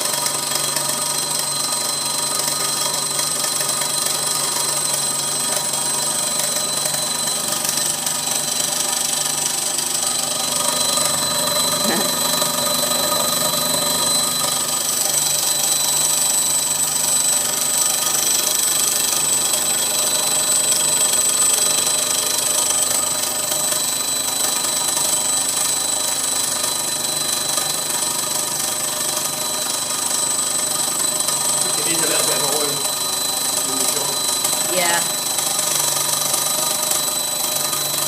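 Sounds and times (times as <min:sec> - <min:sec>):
model steam engine buzzing: 0:00.0 - 0:38.0.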